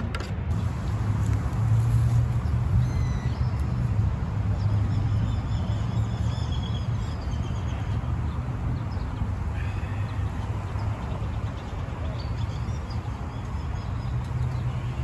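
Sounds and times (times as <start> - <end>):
small birds chirping: 0.5 - 15.0.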